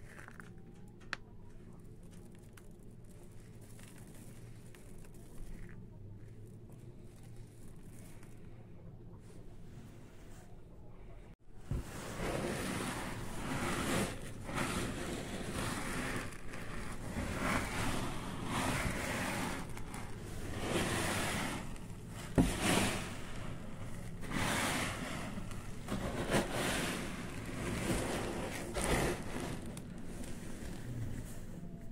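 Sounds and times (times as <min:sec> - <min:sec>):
pellets rustling and swishing: 0:01.7 - 0:08.6, 0:11.6 - 0:31.9.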